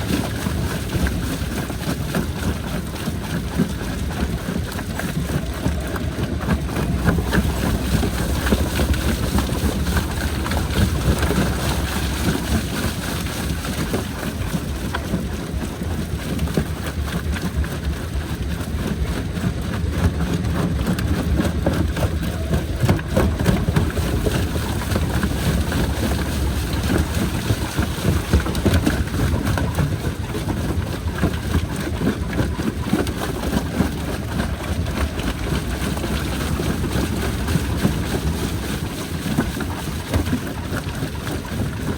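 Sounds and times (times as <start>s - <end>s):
rock crusher rumbling: 0.0s - 41.9s.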